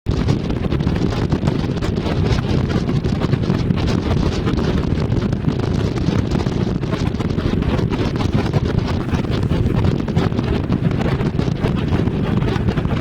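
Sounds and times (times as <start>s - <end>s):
wind buffeting microphone: 0.1s - 13.0s
vehicle low rumble: 0.3s - 13.0s.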